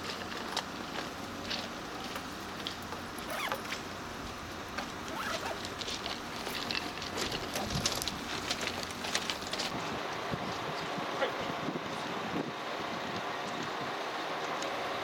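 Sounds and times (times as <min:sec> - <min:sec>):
open-air background: 0:00.0 - 0:15.0.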